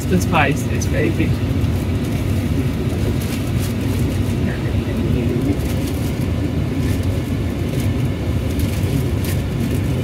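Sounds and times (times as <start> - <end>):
road and engine rumble in cabin: 0.0 - 10.0.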